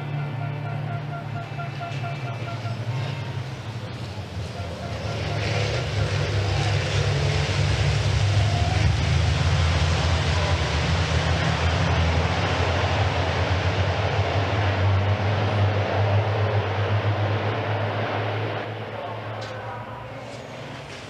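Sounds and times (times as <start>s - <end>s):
racing truck engines at speed: 0.0s - 21.0s.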